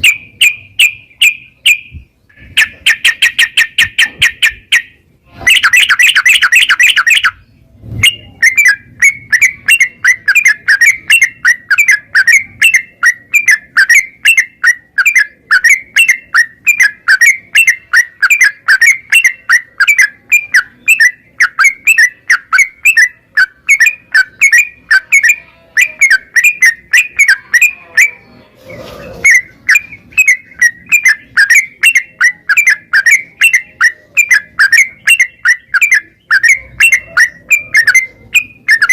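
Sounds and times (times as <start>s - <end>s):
bird singing and chattering: 0.0s - 38.9s.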